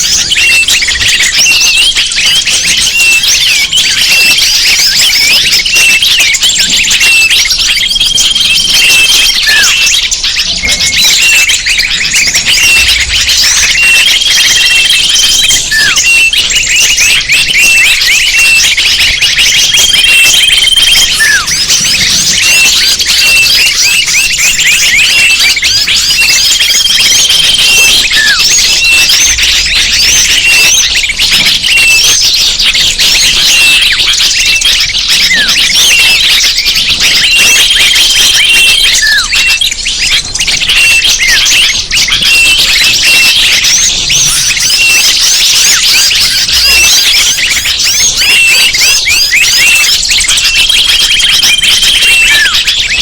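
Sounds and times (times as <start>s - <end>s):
chorus of small birds chirping: 0.0s - 53.0s.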